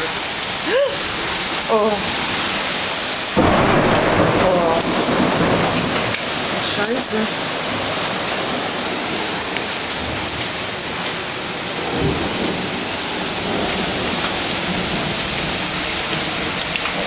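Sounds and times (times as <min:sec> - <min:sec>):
hailstones striking: 0:00.0 - 0:17.0
heavy rain downpour: 0:00.0 - 0:17.0.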